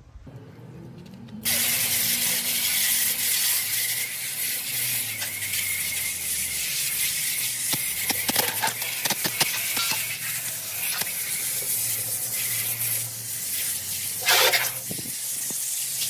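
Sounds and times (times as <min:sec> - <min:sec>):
water jet spraying: 0:01.4 - 0:16.0.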